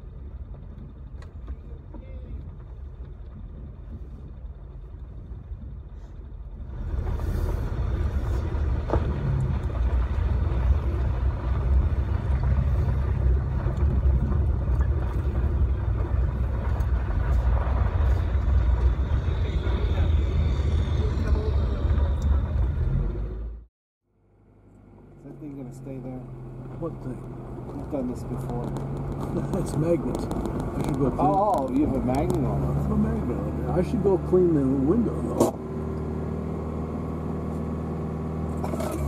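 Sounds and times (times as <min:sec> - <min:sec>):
vehicle rumbling on dirt track: 0:00.0 - 0:39.0.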